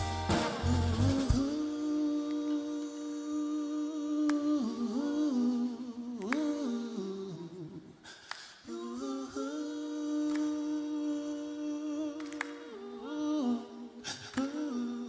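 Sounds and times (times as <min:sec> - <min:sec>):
person humming a slow melody: 0:00.0 - 0:07.8, 0:08.7 - 0:15.0.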